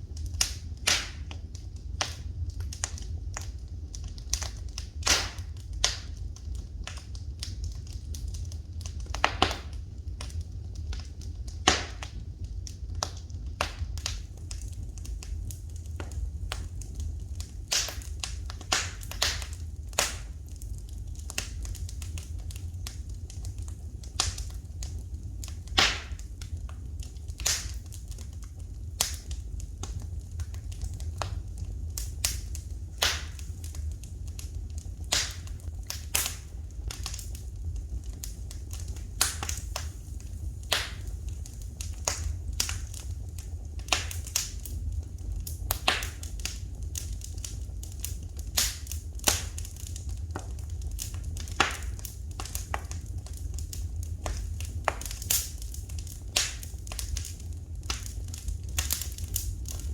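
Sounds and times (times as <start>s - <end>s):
fire popping and snapping: 0.0s - 59.9s
low rumble of fire: 0.0s - 59.9s
wood fire crackling: 0.0s - 59.9s.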